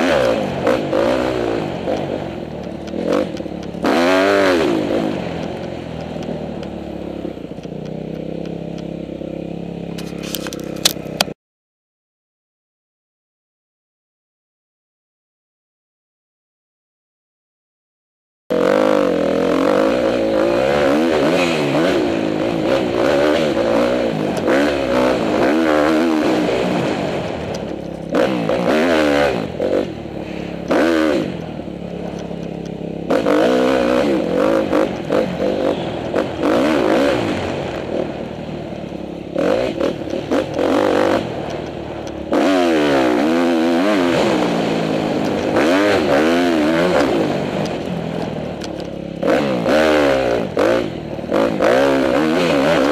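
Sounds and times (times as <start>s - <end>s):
motorcycle engine revving: 0.0s - 11.4s, 18.5s - 52.9s.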